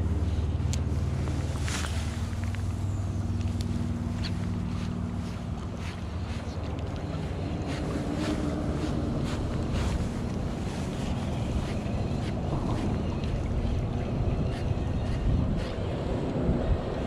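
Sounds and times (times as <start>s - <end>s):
low engine hum: 0.0s - 17.0s
wind buffeting microphone: 0.0s - 17.0s.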